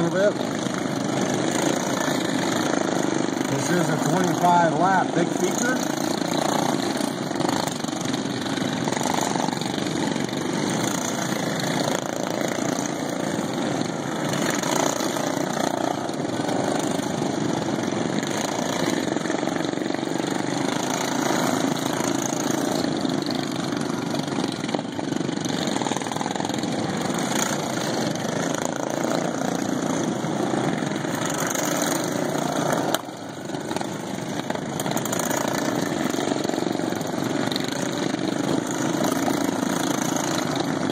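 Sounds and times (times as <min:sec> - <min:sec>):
racing lawn mower engines: 0:00.0 - 0:40.9.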